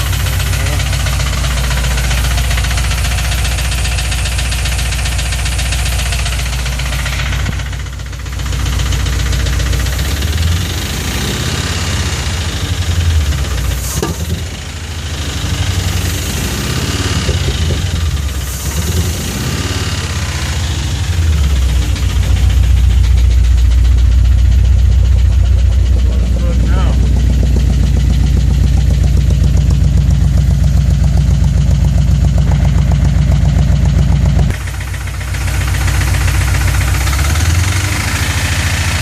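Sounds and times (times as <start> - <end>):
car engine knocking: 0.0 - 39.0.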